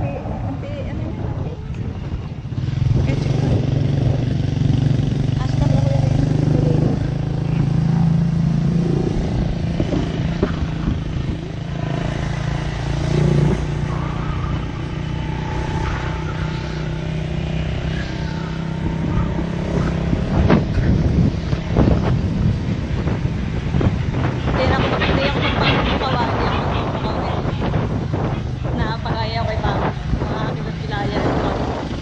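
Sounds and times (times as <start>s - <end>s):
motorcycle engine droning: 0.0s - 32.0s.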